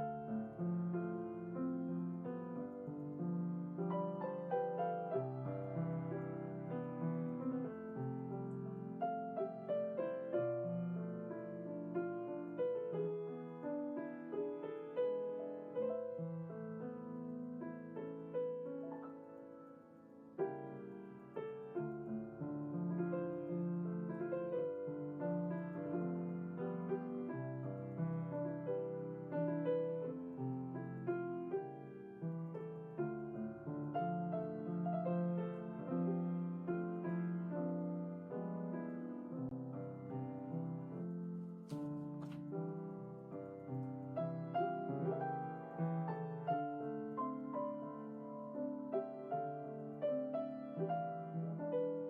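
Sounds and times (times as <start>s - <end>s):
slow solo piano music: 0.0s - 52.0s.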